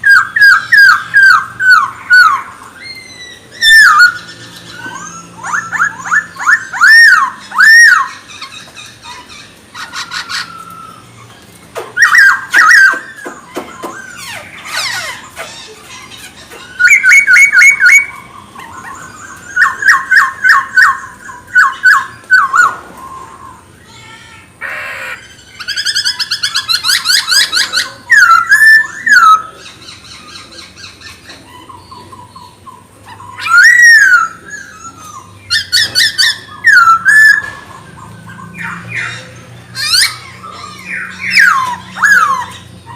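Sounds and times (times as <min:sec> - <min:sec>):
bird singing varied whistled song: 0:00.0 - 0:14.7, 0:16.6 - 0:23.6, 0:25.2 - 0:42.9.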